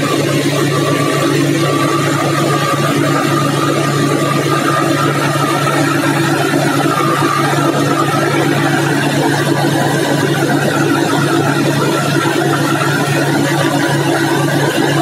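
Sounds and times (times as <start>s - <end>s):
aircraft engine drone with whine: 0.0s - 15.0s.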